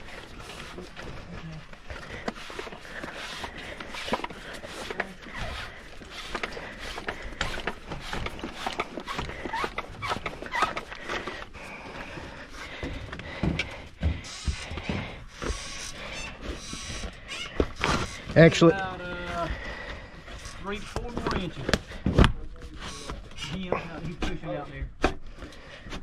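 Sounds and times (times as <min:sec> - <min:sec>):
vent pipe clicks and scrapes: 0:01.9 - 0:11.5, 0:12.8 - 0:18.9, 0:20.2 - 0:26.0.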